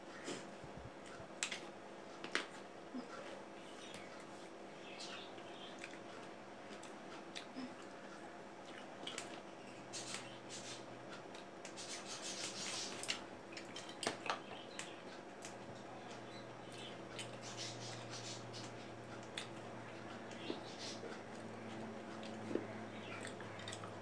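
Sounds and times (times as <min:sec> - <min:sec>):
chewing and crunching fruit: 0:01.0 - 0:10.4, 0:12.4 - 0:24.0.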